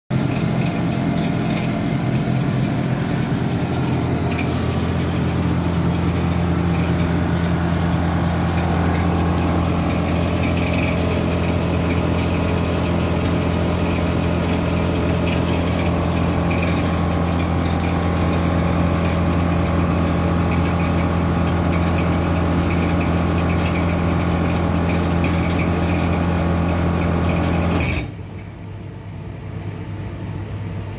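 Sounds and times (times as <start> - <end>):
air compressor humming and hissing: 0.1 - 30.9.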